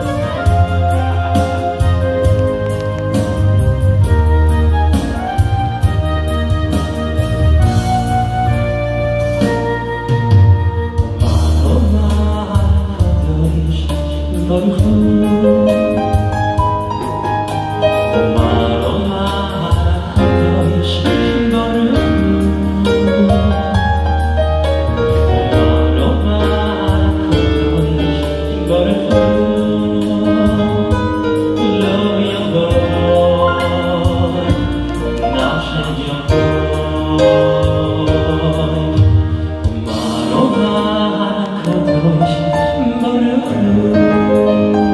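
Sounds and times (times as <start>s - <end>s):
man singing into microphone: 0.0s - 6.3s, 7.6s - 44.9s
keyboard chords and bass: 0.0s - 44.9s.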